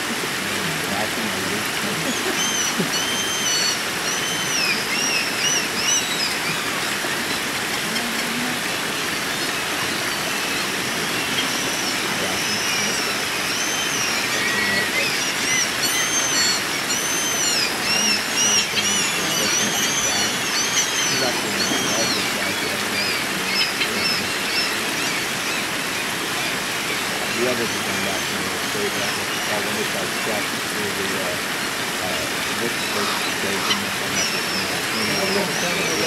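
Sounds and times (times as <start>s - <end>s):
creek water rushing over rocks: 0.0s - 36.0s.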